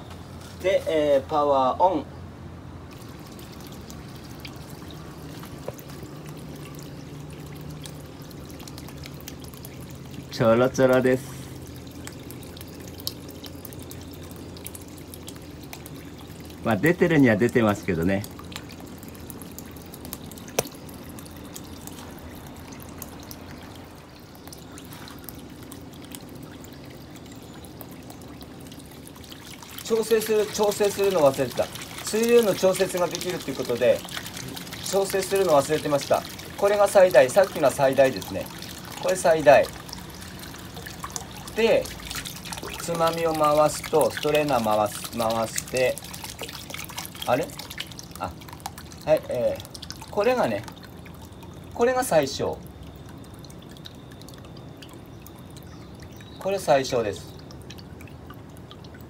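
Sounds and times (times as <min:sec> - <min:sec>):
water trickling into a plastic tub: 0:00.0 - 0:59.0
small water drips: 0:02.7 - 0:59.0.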